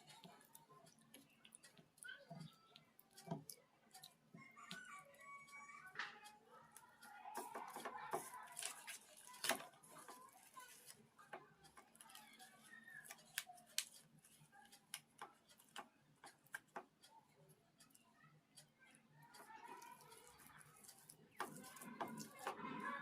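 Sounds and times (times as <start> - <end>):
eating rice by hand: 0.0 - 23.0.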